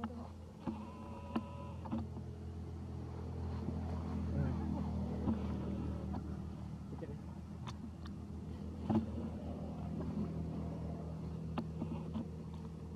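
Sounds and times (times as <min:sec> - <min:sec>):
low motor hum: 0:00.0 - 0:12.9.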